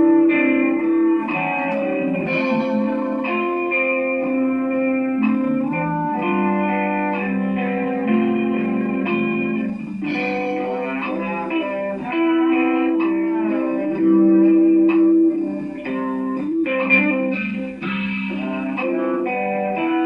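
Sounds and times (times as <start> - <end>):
electric guitar melody: 0.0 - 20.0
instrumental rock music: 0.0 - 20.0.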